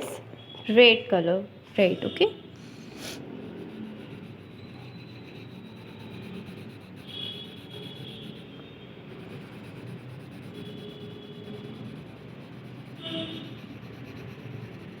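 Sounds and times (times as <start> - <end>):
colouring stick scratching paper: 2.6 - 15.0.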